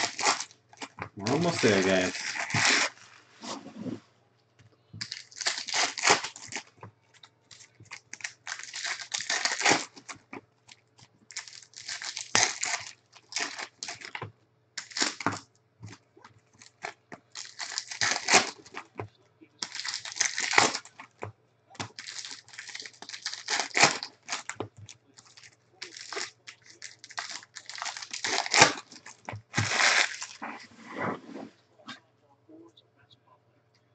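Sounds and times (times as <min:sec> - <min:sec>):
plastic wrappers crinkling and tearing: 0:00.0 - 0:03.4, 0:05.0 - 0:14.2, 0:14.8 - 0:19.0, 0:19.6 - 0:30.6.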